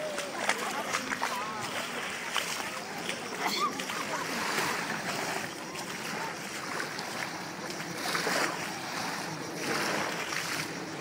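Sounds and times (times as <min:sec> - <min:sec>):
small waves on sandy beach: 0:00.0 - 0:11.0.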